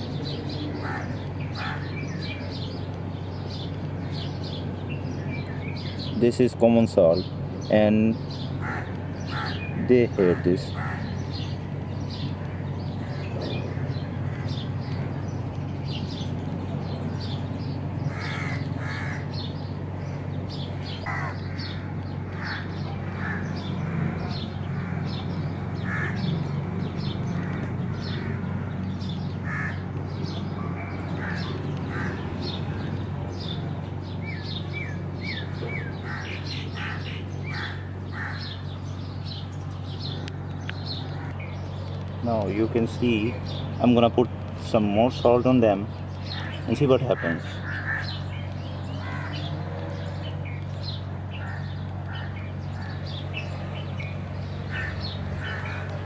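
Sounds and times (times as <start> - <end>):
birds calling: 0.0 - 56.0
steady low hum: 0.0 - 56.0.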